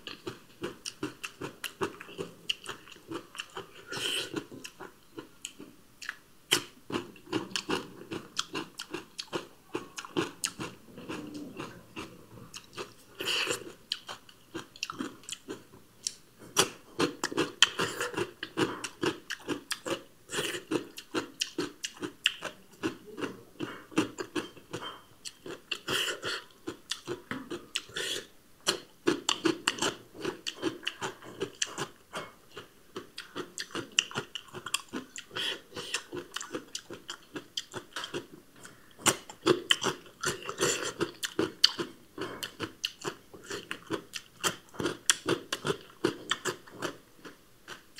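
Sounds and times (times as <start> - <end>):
person chewing crunchy vegetables: 0.0 - 47.9.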